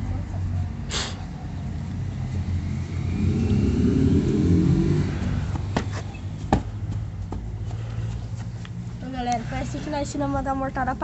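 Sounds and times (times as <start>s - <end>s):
motor vehicle engine rumbling: 0.0s - 11.0s.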